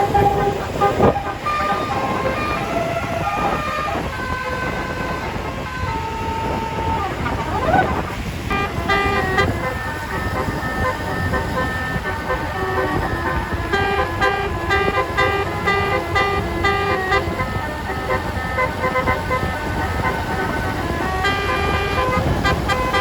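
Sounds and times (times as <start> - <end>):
multi-tone bus horn melody: 0.0 - 23.0
street noise: 0.0 - 23.0.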